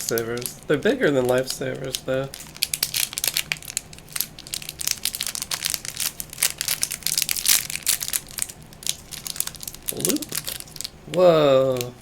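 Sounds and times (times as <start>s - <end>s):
plastic wrapper crackling: 0.0s - 12.0s.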